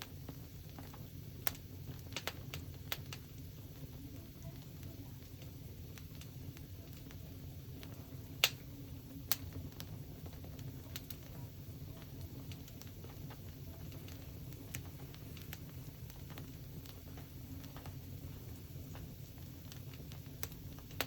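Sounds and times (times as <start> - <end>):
fire snapping: 0.0 - 21.0
wood fire crackling: 0.0 - 21.0.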